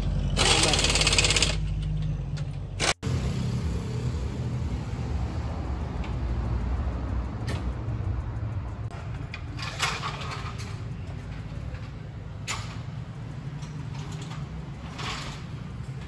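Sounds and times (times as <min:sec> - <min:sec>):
low steady rumble: 0:01.6 - 0:16.0.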